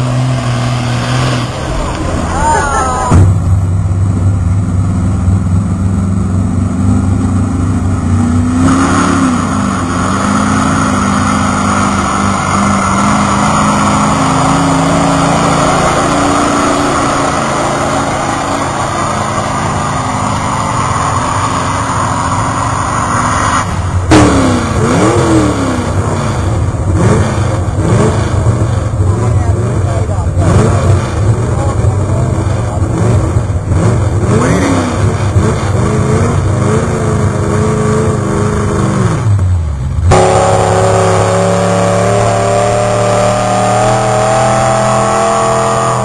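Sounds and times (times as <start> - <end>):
truck engine roaring and revving: 0.0 - 46.0.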